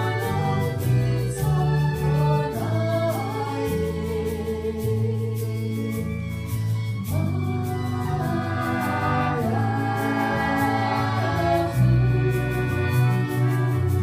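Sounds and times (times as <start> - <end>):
voices singing together: 0.0 - 6.4, 7.1 - 14.0
acoustic guitar: 0.0 - 14.0.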